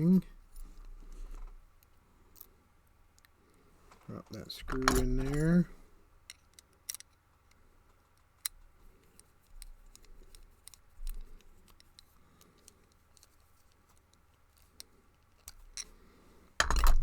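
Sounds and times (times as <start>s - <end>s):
small metal clicks and scraping: 0.5s - 17.0s.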